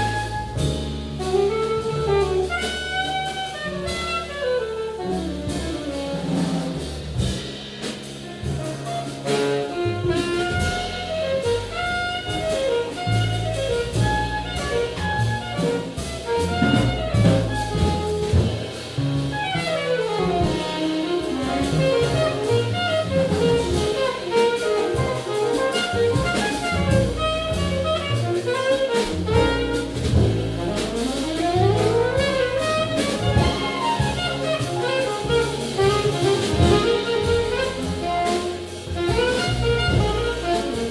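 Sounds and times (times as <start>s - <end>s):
saxophone lead line: 0.0s - 6.8s, 9.2s - 40.9s
bass: 0.0s - 40.9s
drum kit with cymbals: 0.0s - 40.9s.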